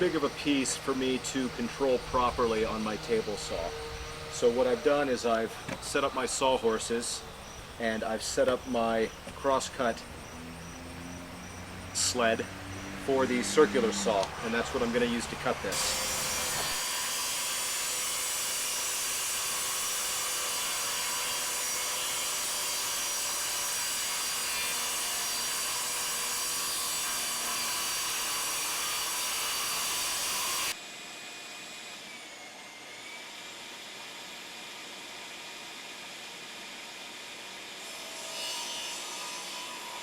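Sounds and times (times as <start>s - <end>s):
circular saw cutting wood: 0.0s - 40.0s.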